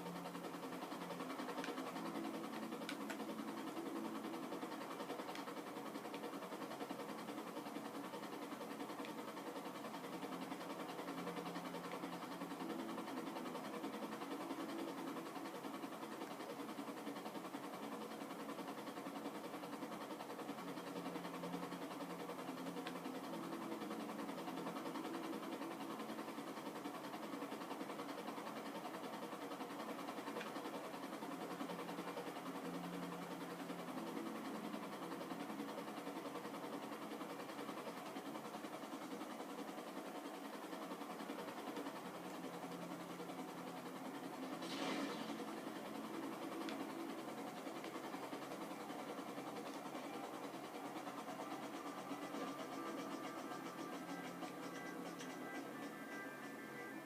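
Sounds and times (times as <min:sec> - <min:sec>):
low mechanical drone: 0:00.0 - 0:57.0.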